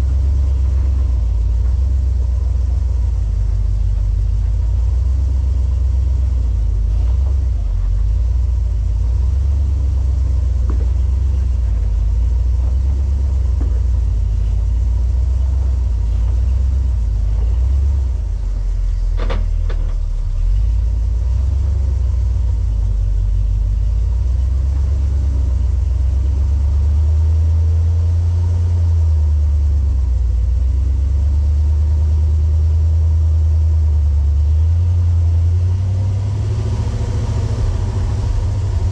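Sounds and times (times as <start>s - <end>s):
off-road vehicle engine rumbling: 0.0s - 38.9s.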